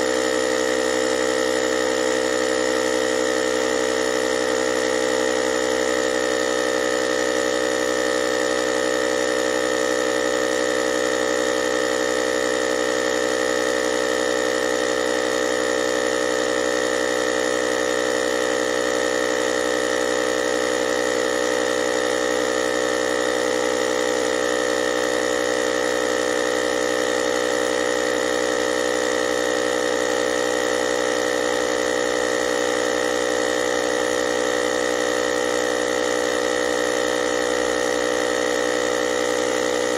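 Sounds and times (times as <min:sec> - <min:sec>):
air compressor motor humming: 0:00.0 - 0:39.9.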